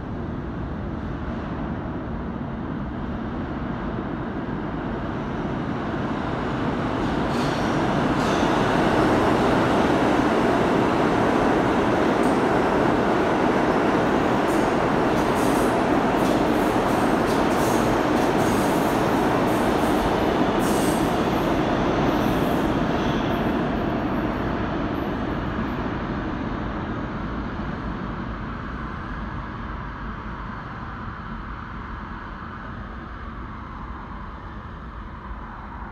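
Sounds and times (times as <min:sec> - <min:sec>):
subway train rumbling past: 0:00.0 - 0:35.9.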